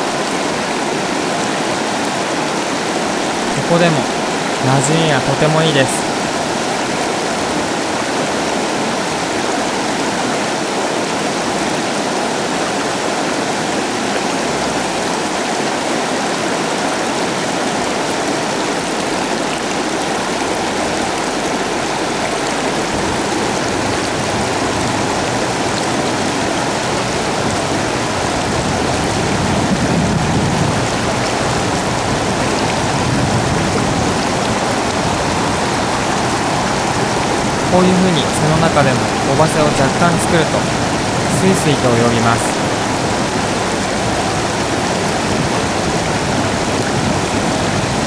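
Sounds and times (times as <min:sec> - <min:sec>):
river current rushing: 0:00.0 - 0:48.0.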